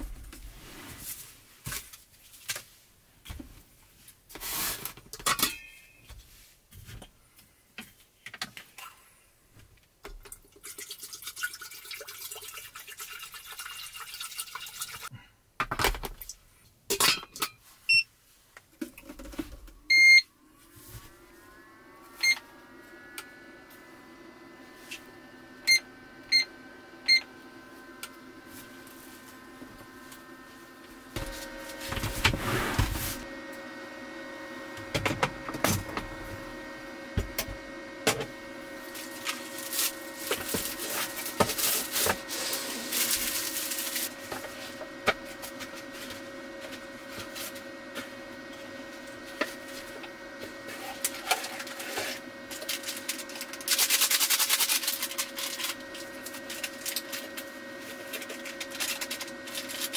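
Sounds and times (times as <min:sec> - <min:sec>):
kettle heating hum: 0:03.2 - 0:59.9.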